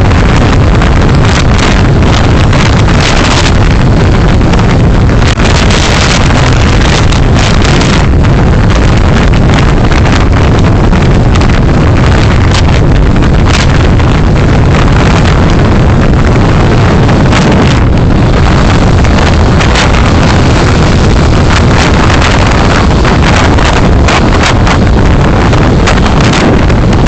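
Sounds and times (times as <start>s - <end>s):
car road and wind noise: 0.0s - 27.0s
microphone crackles: 0.0s - 27.0s.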